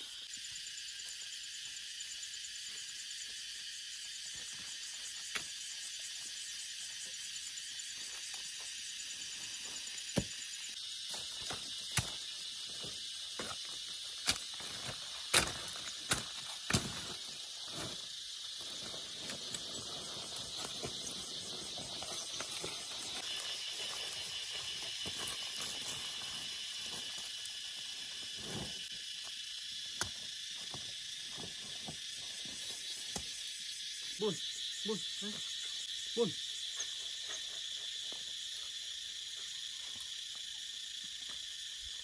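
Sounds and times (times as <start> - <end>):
insect chorus trilling: 0.0 - 42.0.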